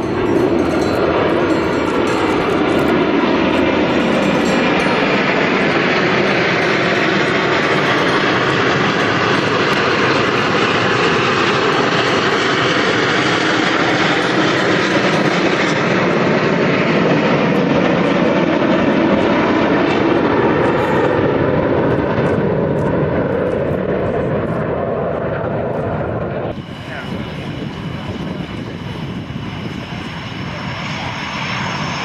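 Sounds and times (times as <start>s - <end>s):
jet engines flying overhead: 0.0s - 32.0s.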